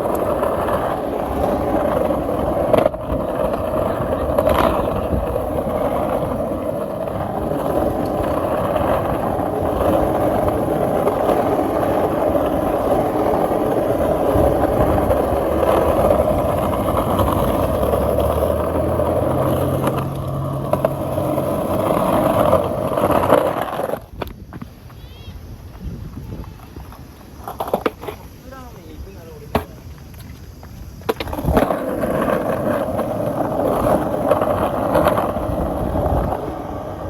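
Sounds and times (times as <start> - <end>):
skateboard wheels rolling on pavement: 0.0 - 37.0.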